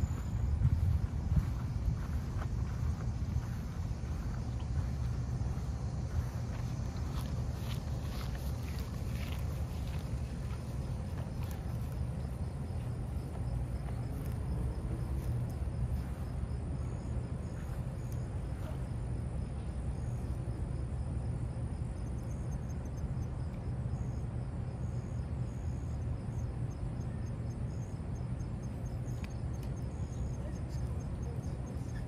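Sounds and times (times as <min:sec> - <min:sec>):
faint insect chirps: 0:00.0 - 0:32.0
steady low rumble: 0:00.0 - 0:32.0.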